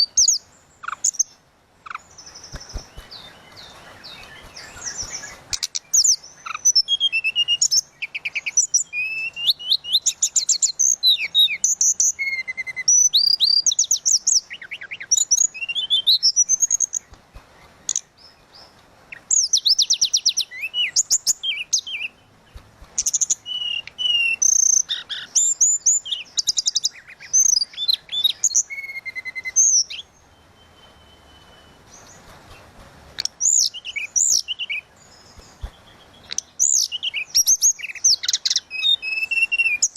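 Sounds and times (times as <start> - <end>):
songbird whistling and trilling: 1.9 - 17.2, 17.9 - 22.2, 23.0 - 32.6, 33.2 - 39.9.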